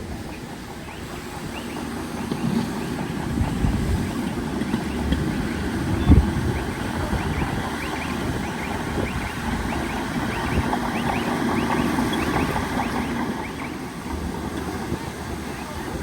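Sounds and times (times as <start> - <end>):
bulldozer rumbling: 0.0 - 16.0.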